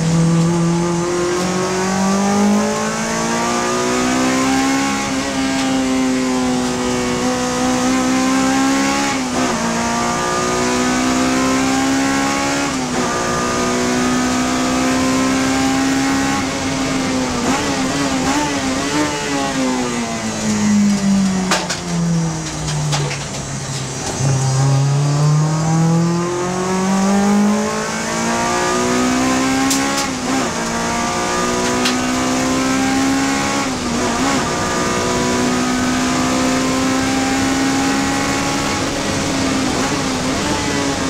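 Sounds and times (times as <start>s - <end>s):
race car engine at high revs: 0.0s - 41.0s.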